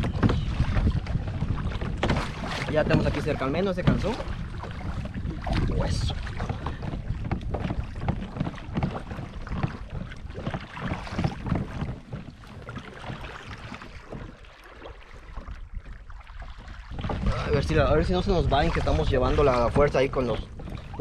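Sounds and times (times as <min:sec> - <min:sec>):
wind buffeting microphone: 0:00.0 - 0:14.5, 0:15.2 - 0:21.0
water splashing against kayak hull: 0:00.0 - 0:21.0.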